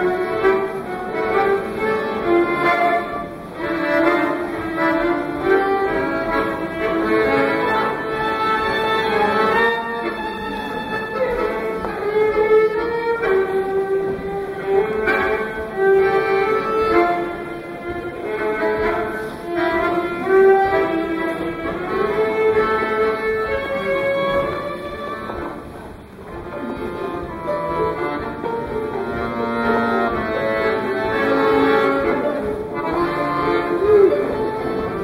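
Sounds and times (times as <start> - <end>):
bandoneon accompaniment: 0.0 - 35.0
violin melody: 0.0 - 35.0.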